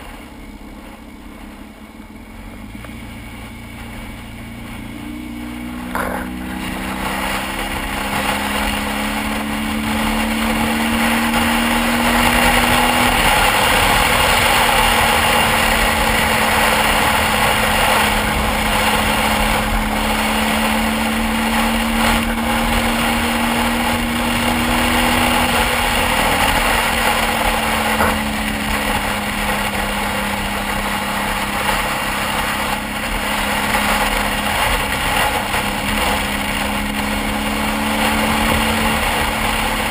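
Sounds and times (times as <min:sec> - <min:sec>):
motorcycle engine: 0:00.0 - 0:39.9
wind rush: 0:03.6 - 0:39.9.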